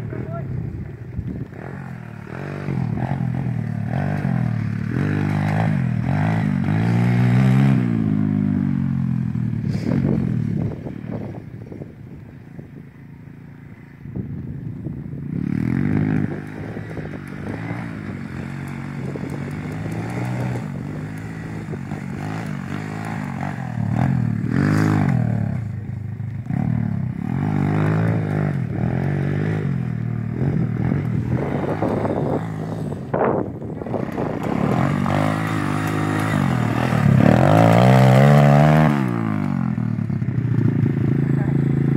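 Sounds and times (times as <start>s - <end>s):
pit bike engine revving: 0.0s - 11.5s, 15.1s - 41.9s.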